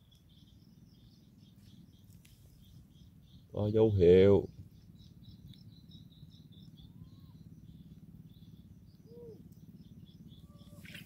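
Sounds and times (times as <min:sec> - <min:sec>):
high chirps of birds or insects: 0:00.0 - 0:11.0.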